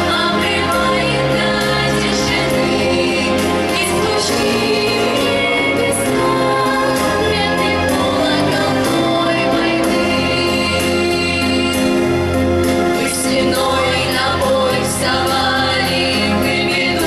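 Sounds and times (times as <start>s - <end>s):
children singing together: 0.0s - 12.1s, 13.0s - 17.0s
musical accompaniment: 0.0s - 17.0s.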